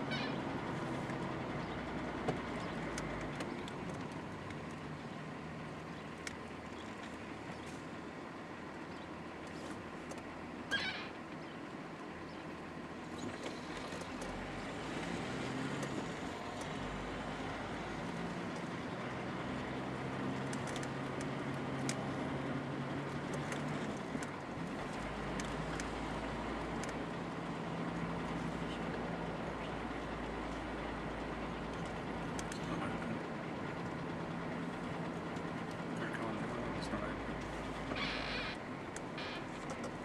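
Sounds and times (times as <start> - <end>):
car engine hum: 0.0 - 40.0
tyre road noise: 0.0 - 40.0.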